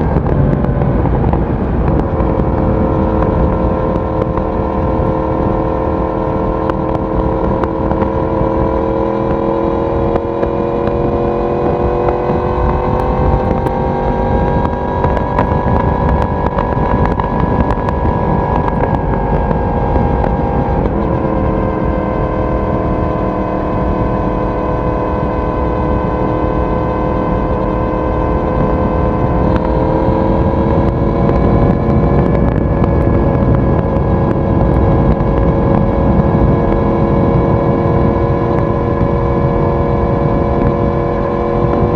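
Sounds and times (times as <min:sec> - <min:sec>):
motorcycle engine cruising: 0:00.0 - 0:41.9
wind and road noise: 0:00.0 - 0:41.9.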